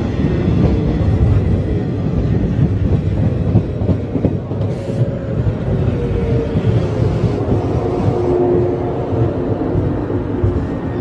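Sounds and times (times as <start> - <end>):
train wheels rumbling and clacking: 0.0 - 11.0.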